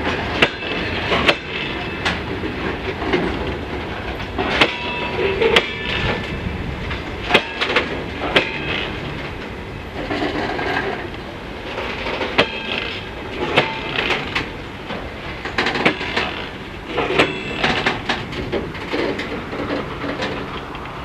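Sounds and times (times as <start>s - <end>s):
train rumble: 0.0s - 21.0s
train wheels clanking over joints: 0.0s - 21.0s.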